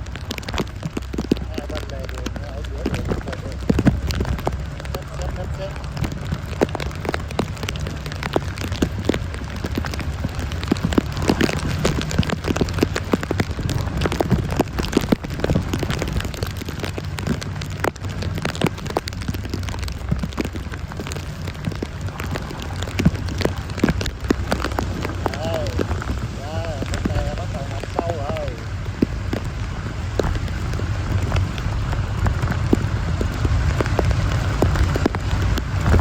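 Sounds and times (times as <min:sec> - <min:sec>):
downpour rumble: 0:00.0 - 0:36.0
heavy rain drop hits: 0:00.0 - 0:36.0.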